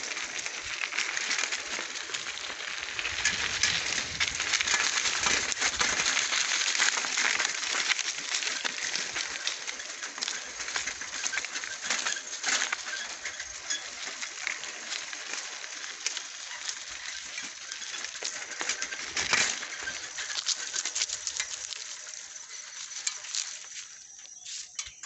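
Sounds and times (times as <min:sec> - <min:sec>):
footsteps crunching through dry leaves: 0:00.0 - 0:25.0.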